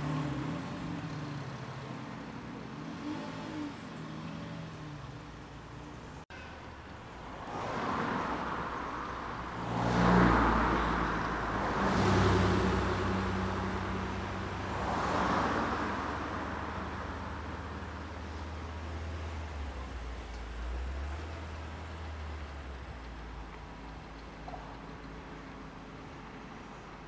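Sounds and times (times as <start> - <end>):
cars driving past: 0.0 - 27.0.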